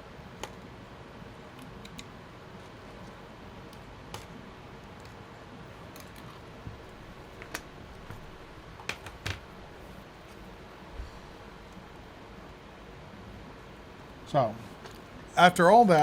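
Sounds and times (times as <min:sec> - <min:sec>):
room noise: 0:00.0 - 0:16.0.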